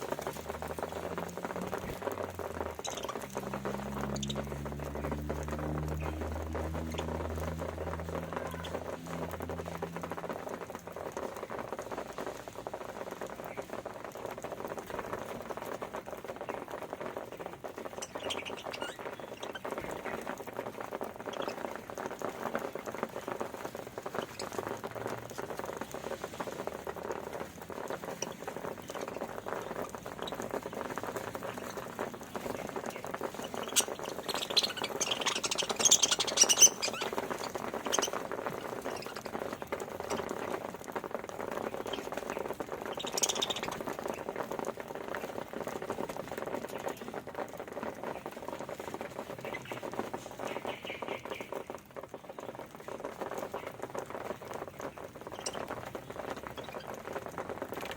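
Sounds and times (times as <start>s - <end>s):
budgerigars cracking grain: 0.0s - 57.9s.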